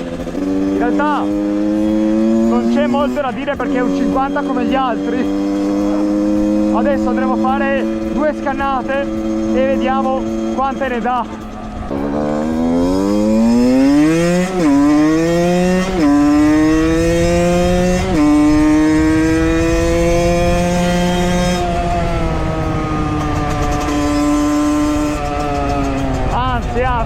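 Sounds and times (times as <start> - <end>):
two-stroke engine accelerating: 0.0 - 27.0.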